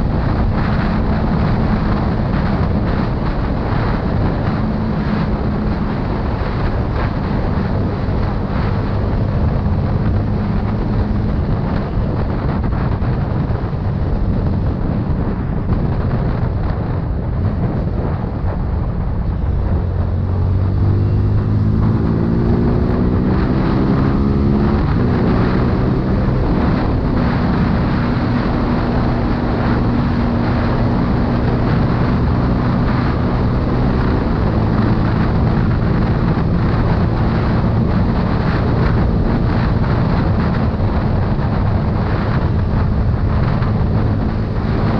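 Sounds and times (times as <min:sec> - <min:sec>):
motorcycle engine running: 0:00.0 - 0:44.9
wind buffeting microphone: 0:00.0 - 0:44.9.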